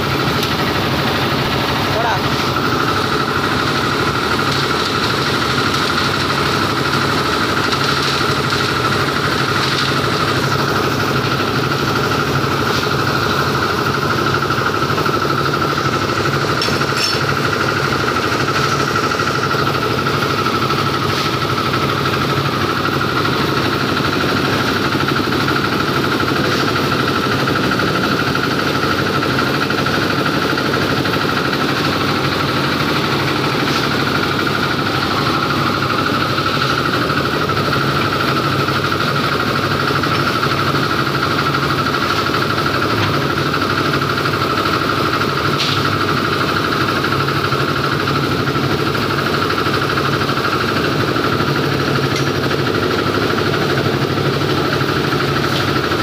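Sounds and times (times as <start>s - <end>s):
concrete mixer engine running: 0.0s - 56.0s.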